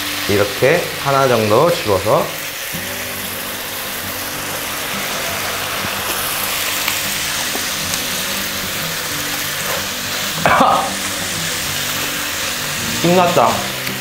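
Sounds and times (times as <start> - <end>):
pork sizzling in a frying pan: 0.0 - 14.0.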